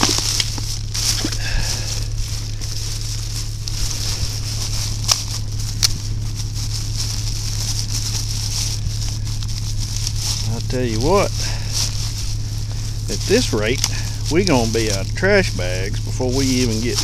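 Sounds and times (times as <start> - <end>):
plastic bags rustling: 0.0 - 17.0
steady low hum: 0.0 - 17.0.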